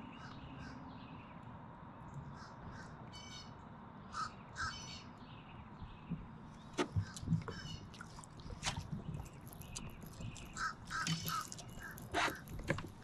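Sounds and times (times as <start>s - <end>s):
faint bird calls: 0.0s - 1.3s, 2.2s - 5.2s, 5.9s - 12.6s.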